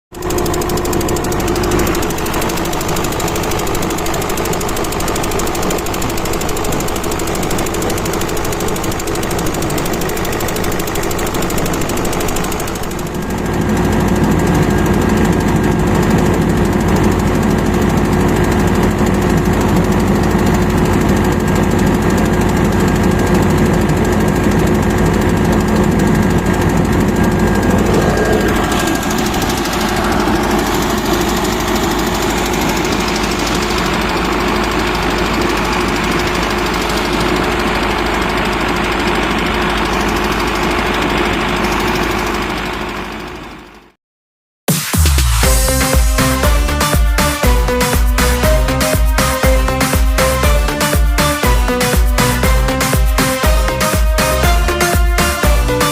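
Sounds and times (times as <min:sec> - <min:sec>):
diesel engine running: 0:00.1 - 0:44.0, 0:44.9 - 0:55.9.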